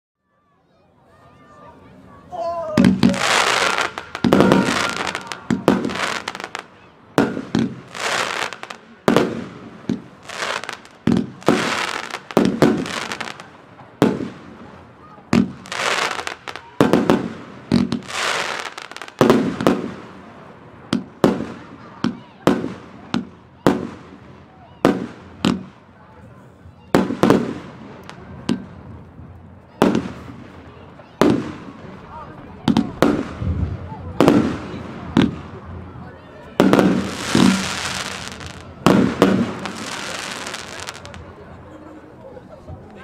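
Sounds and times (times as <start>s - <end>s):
fireworks cake firing bangs: 2.8s - 24.2s, 24.8s - 25.8s, 26.9s - 28.8s, 29.8s - 35.6s, 36.6s - 41.3s.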